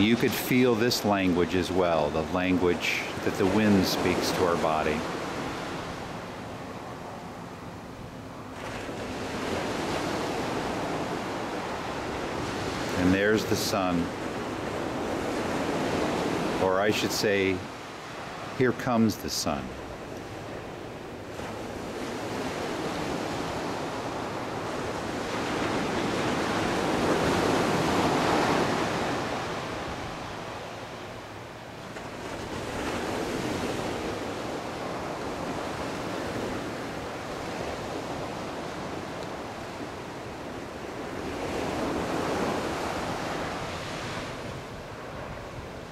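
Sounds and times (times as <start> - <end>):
surf washing onto beach: 0.0 - 6.4, 8.6 - 31.1, 31.8 - 45.9.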